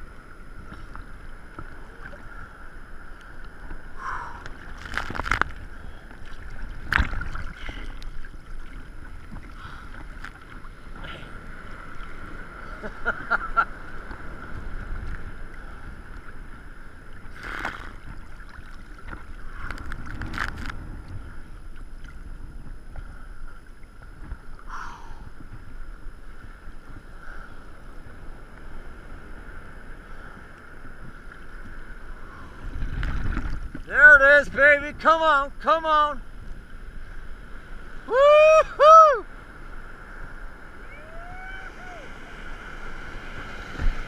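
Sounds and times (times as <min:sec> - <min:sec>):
water sloshing against surfboard: 0:00.0 - 0:34.0, 0:39.2 - 0:44.0
water splashes: 0:00.0 - 0:44.0.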